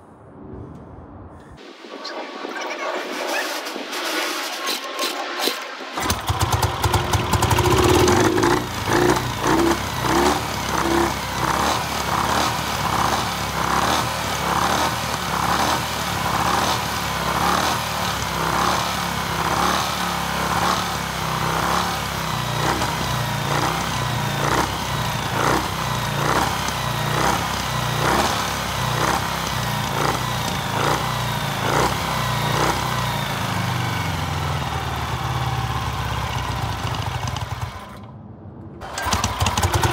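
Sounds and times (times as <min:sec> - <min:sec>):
motorcycle engine starting and running: 0:05.3 - 0:38.2, 0:38.8 - 0:39.9.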